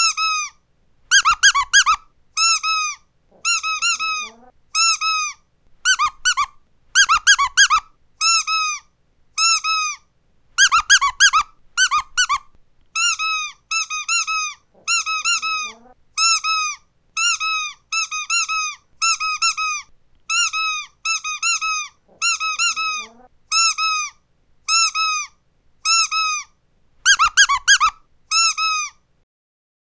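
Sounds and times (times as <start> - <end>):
squeaky dog toy: 0.0 - 29.0.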